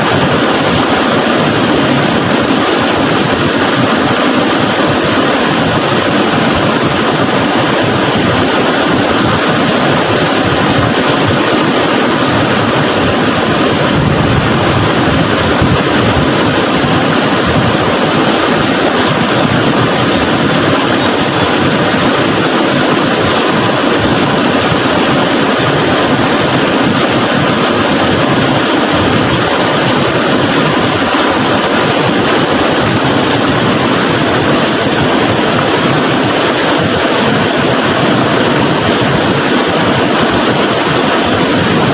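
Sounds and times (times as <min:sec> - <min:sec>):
river water roaring: 0:00.0 - 0:41.9.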